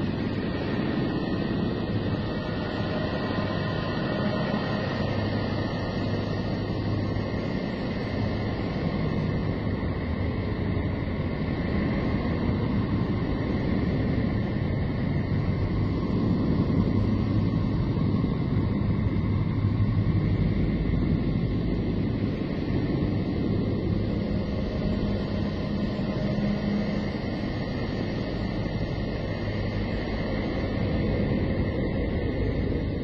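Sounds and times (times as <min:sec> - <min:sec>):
low steady drone: 0:00.0 - 0:33.0.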